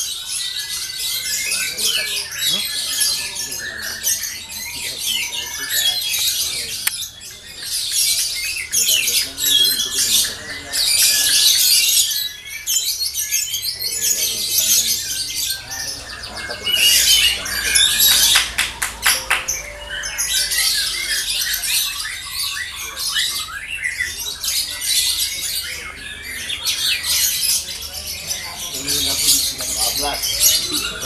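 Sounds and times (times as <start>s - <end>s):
lovebirds chattering: 0.0s - 31.0s.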